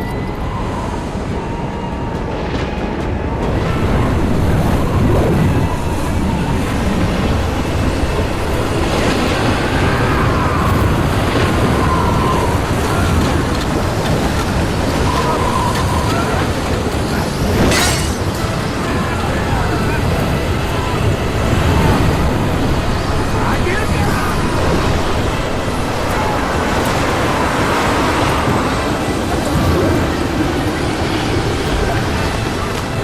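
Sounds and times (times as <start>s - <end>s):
strong gale wind: 0.0s - 33.0s.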